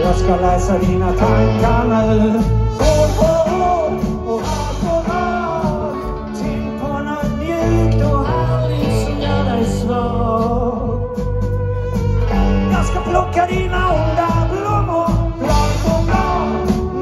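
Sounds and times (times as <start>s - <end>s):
bass guitar: 0.0s - 17.0s
electric guitars: 0.0s - 17.0s
person singing: 0.0s - 17.0s.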